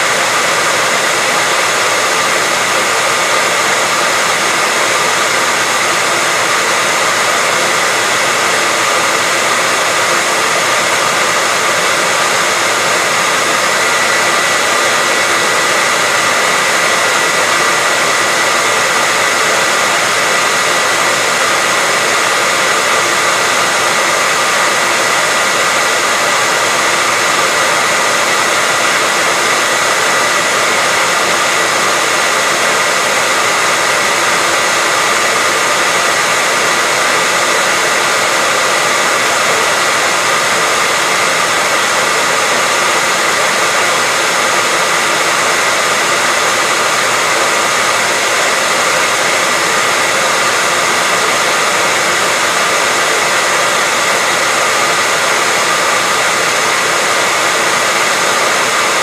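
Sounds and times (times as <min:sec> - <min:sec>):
hairdryer running: 0:00.0 - 0:59.0.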